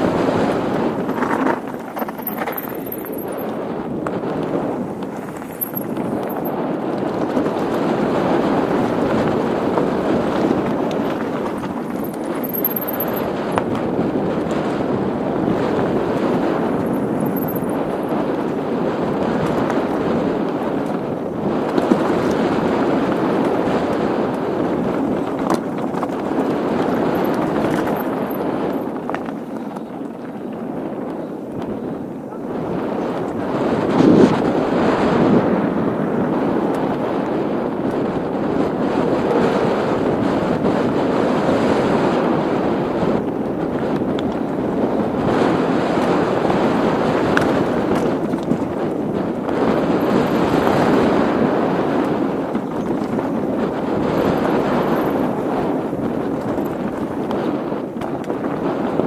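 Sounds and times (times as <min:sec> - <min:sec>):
tyres rolling over gravel: 0:00.0 - 0:41.2, 0:42.0 - 0:59.0
bike rattling: 0:00.0 - 0:59.0
wind on microphone: 0:00.0 - 0:59.0.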